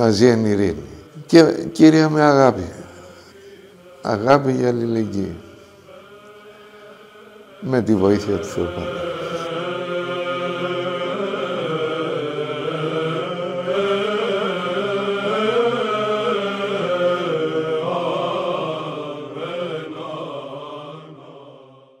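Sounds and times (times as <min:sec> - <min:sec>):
voices chanting a hymn: 0:00.0 - 0:22.0.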